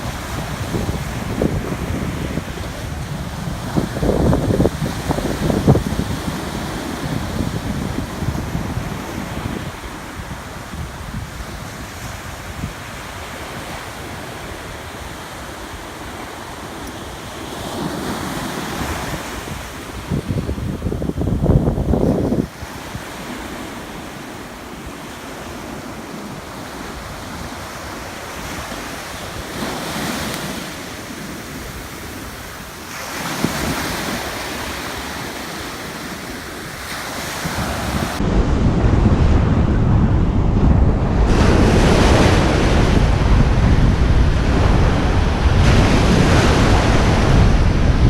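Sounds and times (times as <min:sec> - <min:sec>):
ocean waves breaking on beach: 0:00.0 - 0:48.0
wind rumble on microphone: 0:00.0 - 0:48.0.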